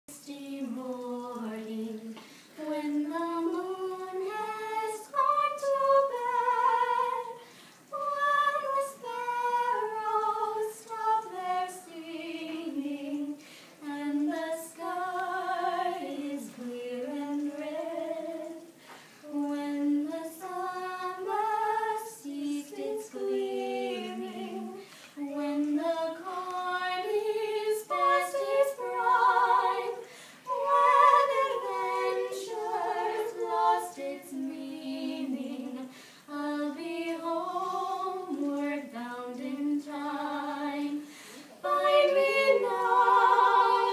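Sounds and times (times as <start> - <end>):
two women singing: 0.1 - 43.9.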